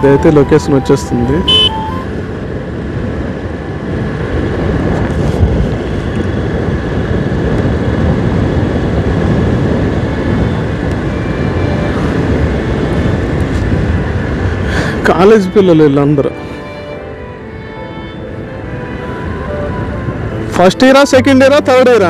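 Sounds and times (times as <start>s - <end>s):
wind noise on microphone: 1.3s - 15.3s, 16.4s - 20.6s.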